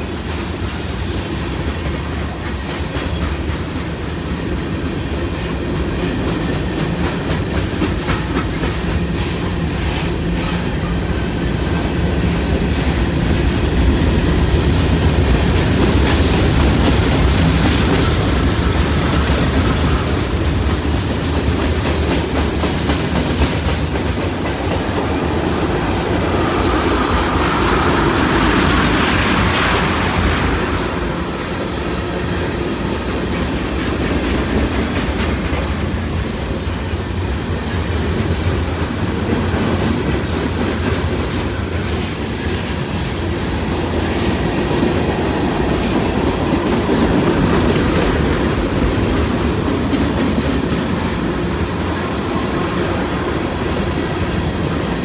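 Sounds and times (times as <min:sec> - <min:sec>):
train grinding hiss: 0:00.0 - 0:55.0
train wheels clattering over rails: 0:00.0 - 0:55.0.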